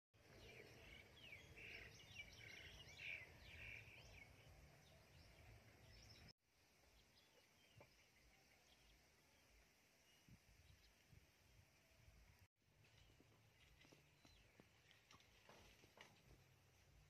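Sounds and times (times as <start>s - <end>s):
small birds chirping: 0.2s - 11.3s, 12.0s - 17.0s.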